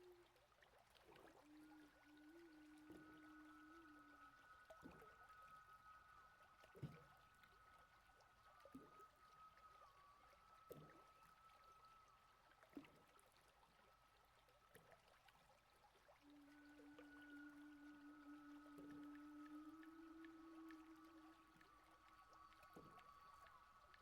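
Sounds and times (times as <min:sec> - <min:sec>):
held high wavering tone: 0:01.2 - 0:13.9, 0:16.2 - 0:24.0.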